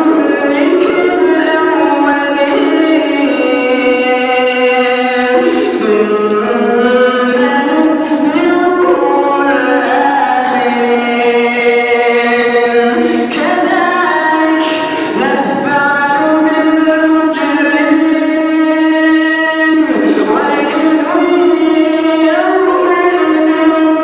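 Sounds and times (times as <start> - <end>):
man chanting melodically: 0.0 - 24.0.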